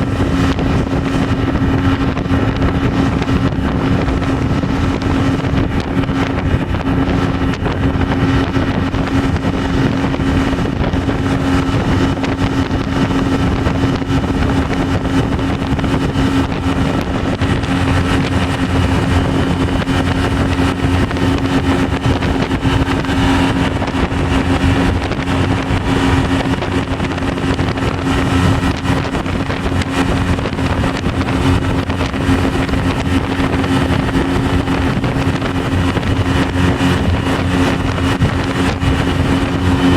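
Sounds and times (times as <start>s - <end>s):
speedboat engine drone: 0.0s - 39.9s
water rushing: 0.0s - 39.9s.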